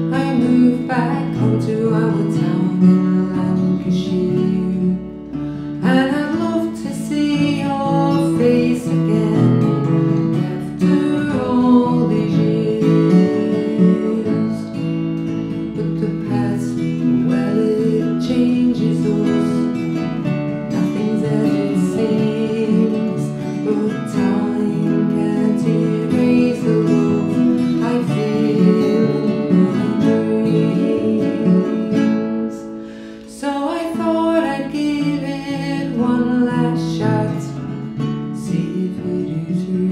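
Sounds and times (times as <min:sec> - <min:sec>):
acoustic guitars playing folk song: 0:00.0 - 0:39.9.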